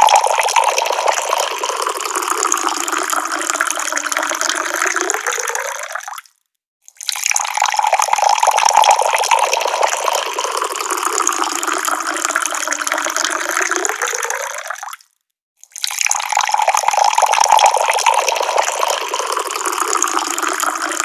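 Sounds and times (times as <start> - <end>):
tap water pouring: 0.0 - 6.3, 7.0 - 15.1, 15.7 - 21.0.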